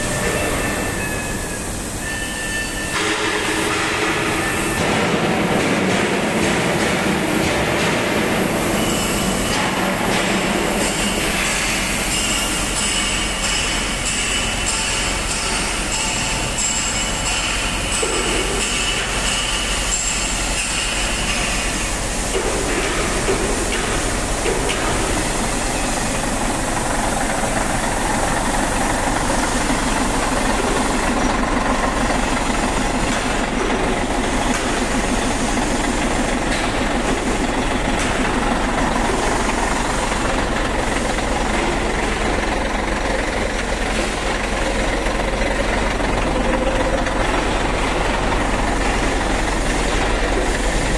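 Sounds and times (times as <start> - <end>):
diesel truck engine running: 3.0 - 50.9.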